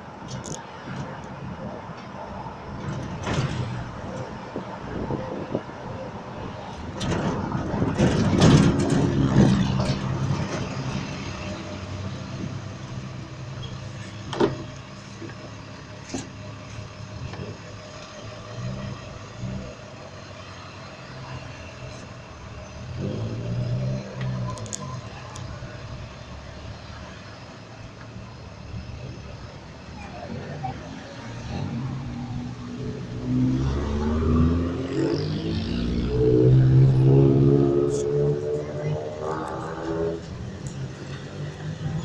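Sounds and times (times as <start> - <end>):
street traffic: 0.0 - 42.0.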